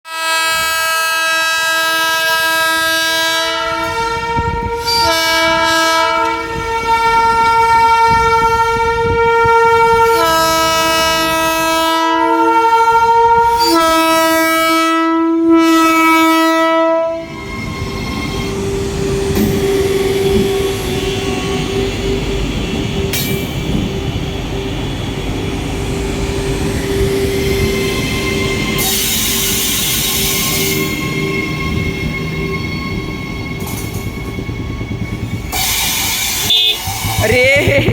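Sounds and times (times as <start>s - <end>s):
train horn blasts: 0.1s - 23.5s, 26.5s - 37.4s
train rumbling and clattering past: 0.4s - 37.9s.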